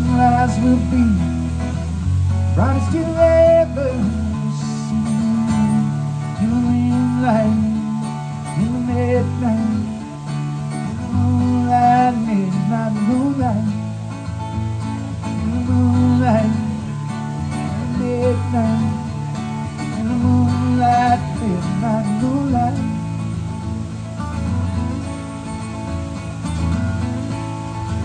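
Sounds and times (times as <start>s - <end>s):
solo acoustic guitar: 0.0s - 28.0s.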